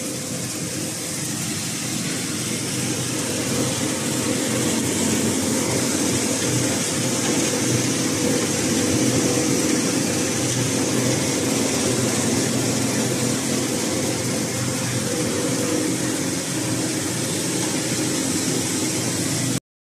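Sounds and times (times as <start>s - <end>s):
grain hissing over sieve: 0.0s - 19.6s
machine hum: 0.0s - 19.6s.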